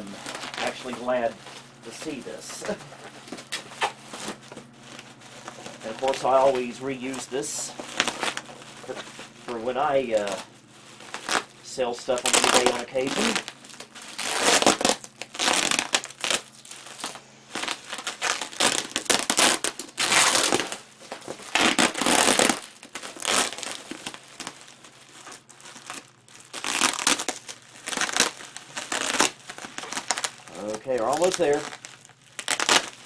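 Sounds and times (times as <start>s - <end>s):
bubble wrap crinkling: 0.0s - 33.0s.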